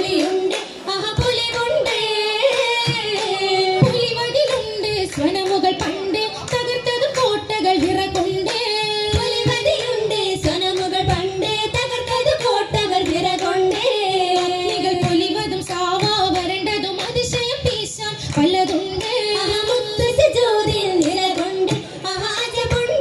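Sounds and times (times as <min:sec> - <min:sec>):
handclaps: 0:00.0 - 0:23.0
women singing: 0:00.0 - 0:23.0.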